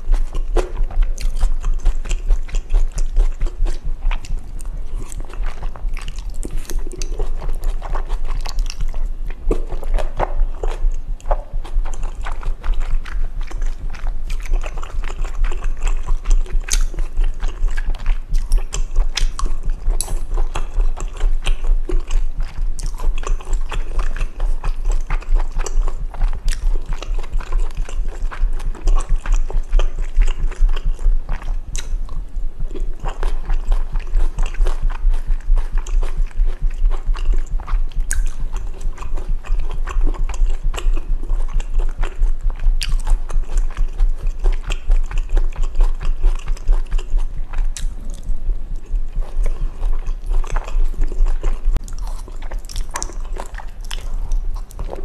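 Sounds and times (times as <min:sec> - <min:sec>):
chewing and slurping noodles: 0:00.0 - 0:55.0.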